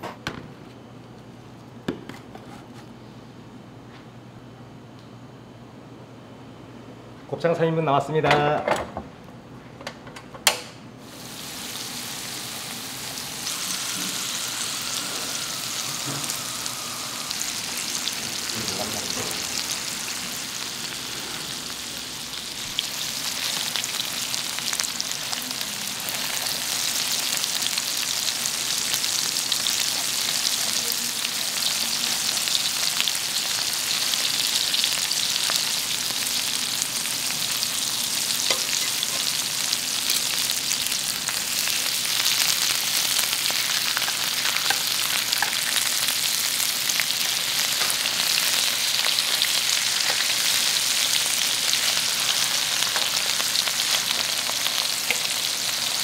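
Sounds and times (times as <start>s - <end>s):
intestines sizzling in a pan: 11.0s - 56.0s.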